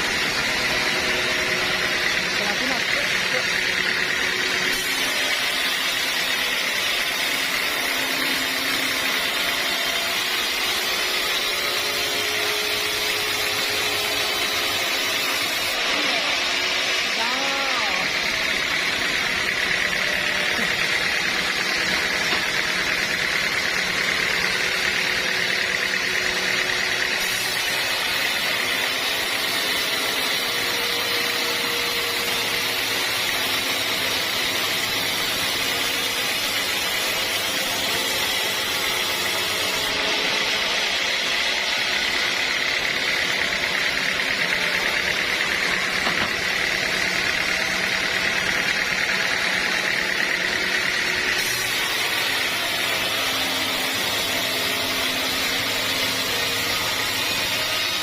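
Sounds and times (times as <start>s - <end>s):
sawmill saw whining: 0.0s - 58.0s.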